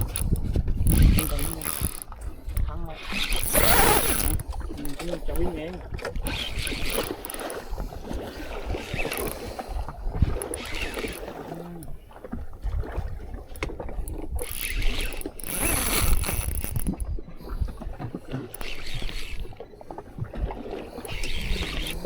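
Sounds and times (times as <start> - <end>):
water sloshing around boat: 0.0 - 22.0.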